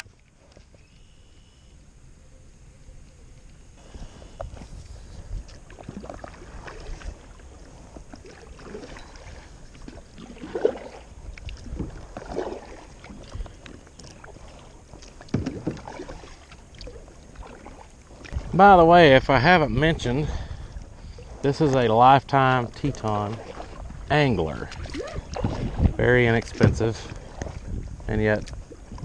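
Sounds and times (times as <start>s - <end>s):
wind on microphone: 2.8s - 16.0s, 16.8s - 29.0s
kayak paddle splashing in water: 3.8s - 18.7s, 20.4s - 29.0s.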